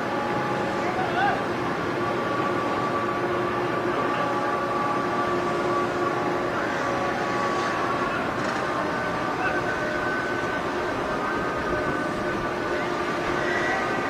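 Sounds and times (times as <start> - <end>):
ship machinery humming: 0.0 - 14.0.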